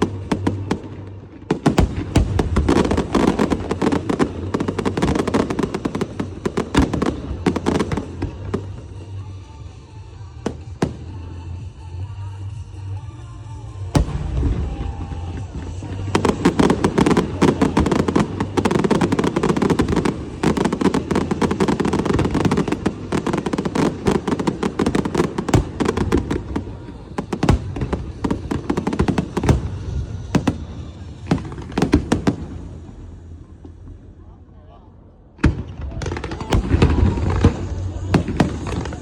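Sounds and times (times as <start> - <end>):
fireworks cracking and banging: 0.0 - 34.2, 35.3 - 39.0.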